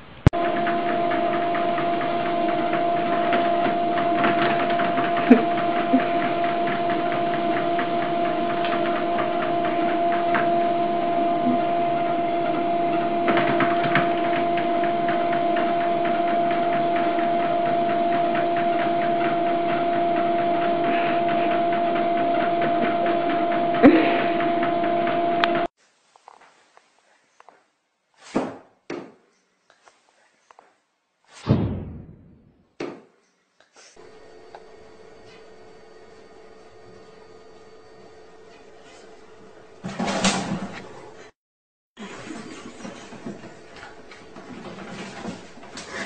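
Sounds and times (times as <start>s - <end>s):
mechanical hum: 0.0s - 28.0s, 33.1s - 41.3s, 42.0s - 46.0s.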